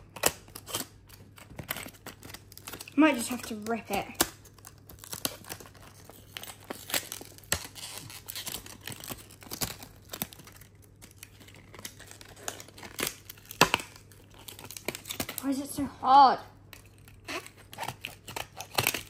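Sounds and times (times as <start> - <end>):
plastic packaging tearing and crinkling: 0.0 - 15.8, 16.7 - 19.0.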